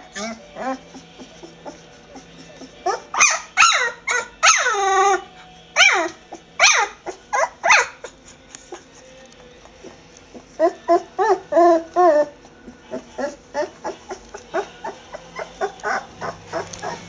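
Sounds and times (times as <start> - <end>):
puppies whimpering: 0.0 - 17.0
puppy squeaks: 0.1 - 8.2, 10.6 - 17.0.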